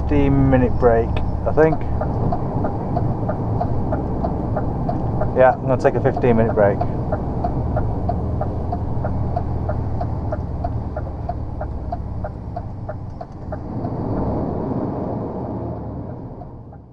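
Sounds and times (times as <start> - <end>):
light regular ticking: 0.0 - 14.0
diesel engine rumble: 0.0 - 16.9.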